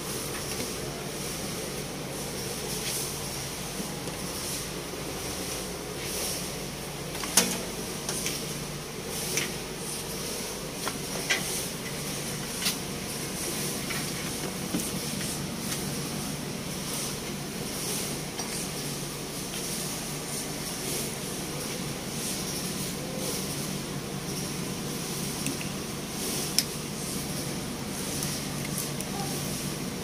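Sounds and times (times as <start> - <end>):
low hum with hiss: 0.0 - 30.0.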